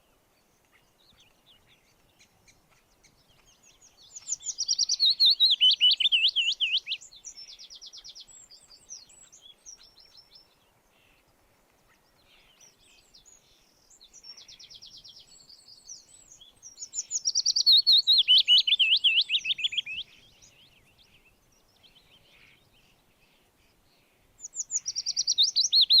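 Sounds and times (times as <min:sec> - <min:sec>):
bird warbling song: 0:00.0 - 0:26.0
bird trills and chirps: 0:00.7 - 0:11.3, 0:11.9 - 0:26.0.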